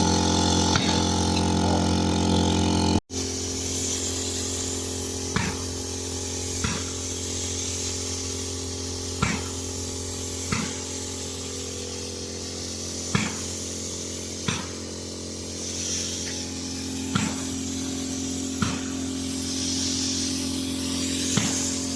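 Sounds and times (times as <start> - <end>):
spray equipment humming: 0.0 - 21.9
spraying hiss: 0.0 - 21.9.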